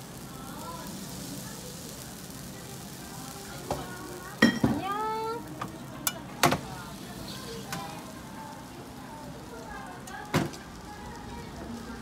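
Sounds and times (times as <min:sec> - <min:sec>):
batter sizzling: 0:00.0 - 0:12.0.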